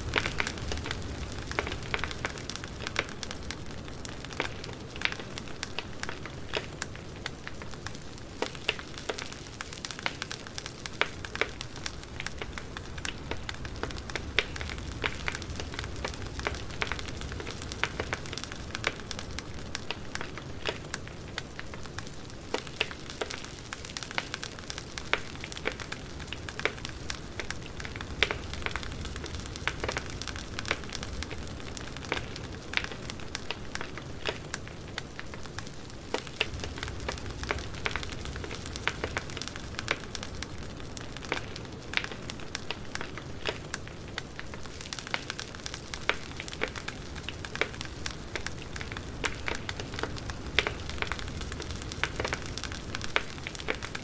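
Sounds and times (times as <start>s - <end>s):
campfire crackles and pops: 0.0s - 54.0s
low rumble of flames: 0.0s - 54.0s.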